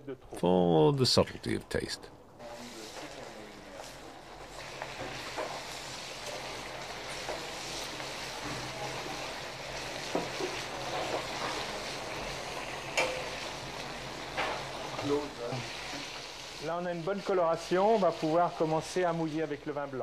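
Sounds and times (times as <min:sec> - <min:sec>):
chicken sizzling in a pan: 0:02.4 - 0:20.0.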